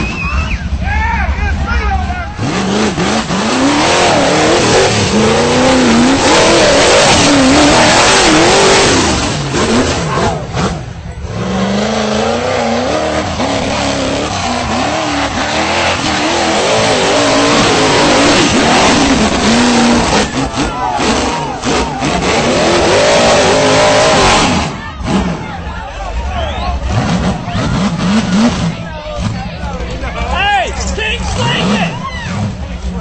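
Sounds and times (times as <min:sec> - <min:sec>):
buggy engine revving hard: 0:00.0 - 0:33.0.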